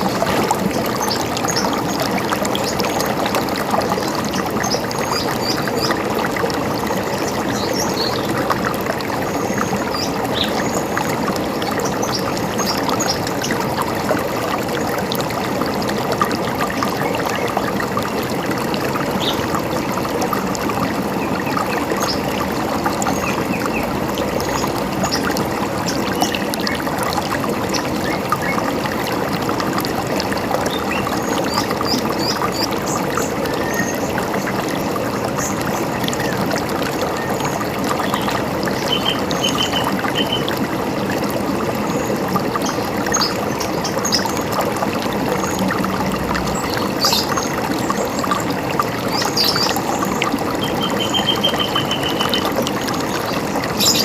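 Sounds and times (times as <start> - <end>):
river running over stones: 0.0 - 54.0.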